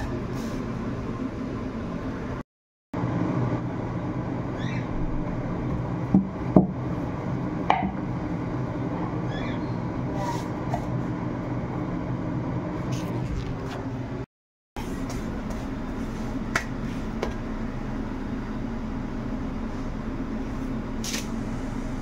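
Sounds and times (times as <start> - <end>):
steady low hum: 3.0 - 22.0.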